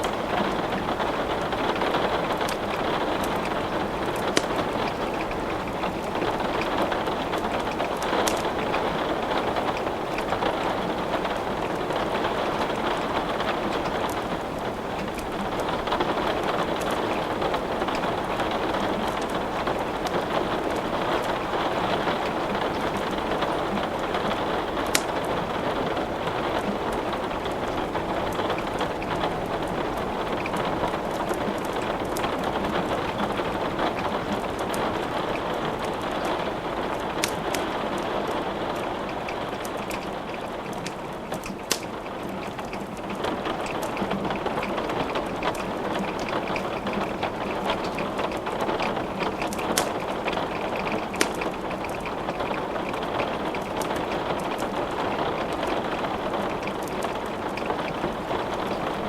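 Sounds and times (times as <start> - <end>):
steady rain falling: 0.0 - 59.0
wood fire crackling: 0.0 - 59.0.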